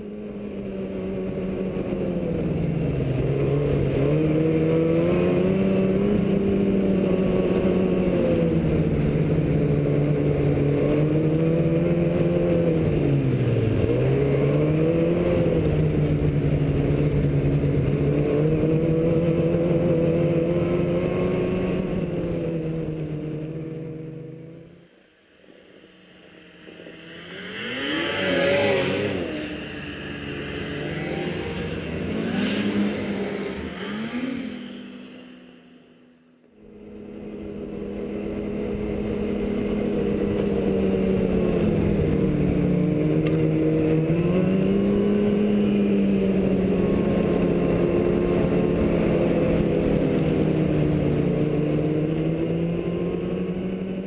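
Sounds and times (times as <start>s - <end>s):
snowmobile engine running: 0.0s - 54.0s
snowmobiles passing by: 0.0s - 54.0s.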